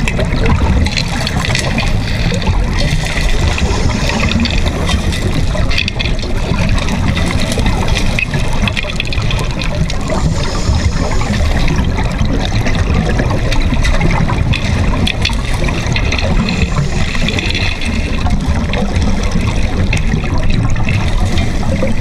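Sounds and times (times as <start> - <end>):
bubbling and crackling: 0.0 - 22.0
muffled underwater rumble: 0.0 - 22.0.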